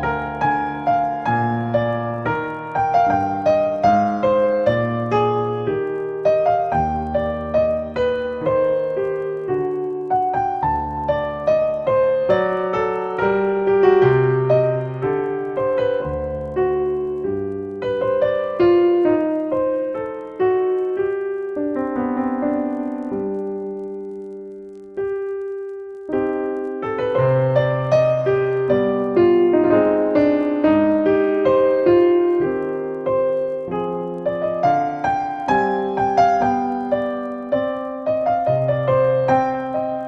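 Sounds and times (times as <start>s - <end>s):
solo piano music: 0.0s - 40.0s.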